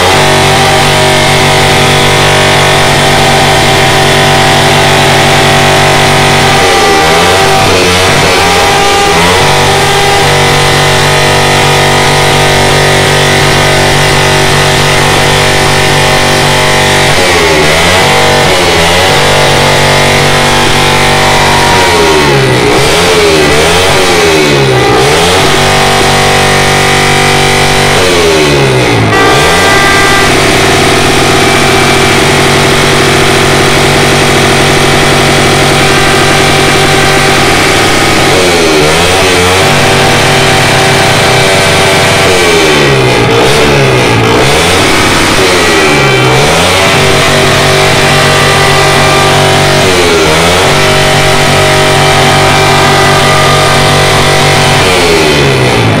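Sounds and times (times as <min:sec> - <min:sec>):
party horns buzzing: 0:00.0 - 0:56.0.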